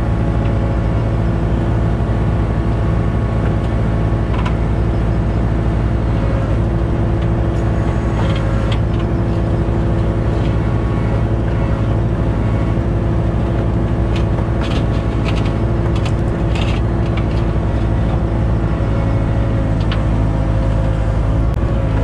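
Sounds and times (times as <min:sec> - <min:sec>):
diesel engine running steadily: 0:00.0 - 0:22.0.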